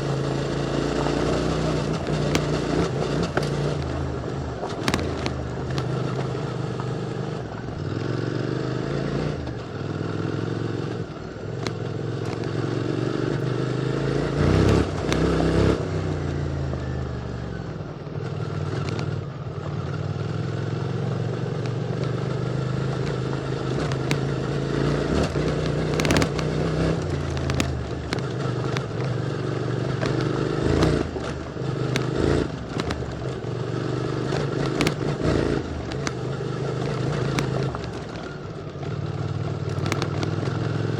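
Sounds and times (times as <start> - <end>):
motorcycle engine revving: 0.0 - 40.9
stones clattering under tyres: 0.3 - 7.7, 9.5 - 15.8, 21.6 - 40.9.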